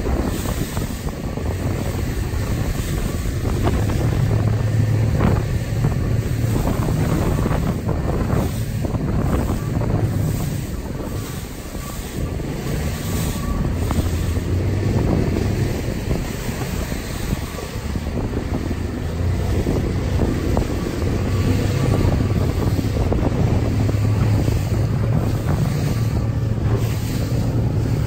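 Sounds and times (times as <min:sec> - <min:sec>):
water rushing along hulls: 0:00.0 - 0:28.0
wind buffeting microphone: 0:00.0 - 0:28.0.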